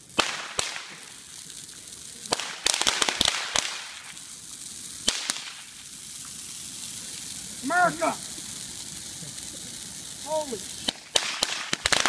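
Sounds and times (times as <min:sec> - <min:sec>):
firecrackers cracking: 0:00.0 - 0:12.0
hissing rush of fire: 0:00.0 - 0:12.0.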